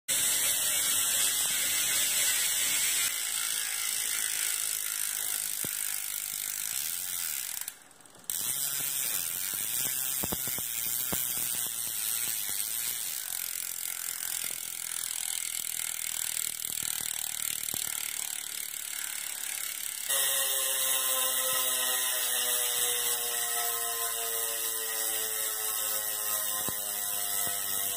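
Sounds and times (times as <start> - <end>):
bicycle hub ratcheting buzz: 0.1 - 27.9.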